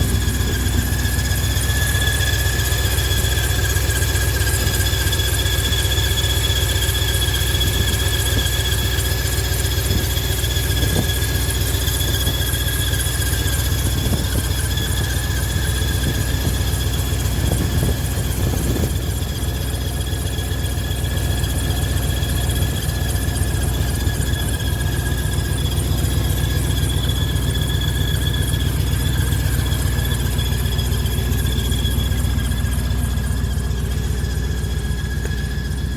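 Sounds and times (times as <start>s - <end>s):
truck engine running: 0.0s - 35.9s
high-pitched squeal: 6.9s - 35.9s.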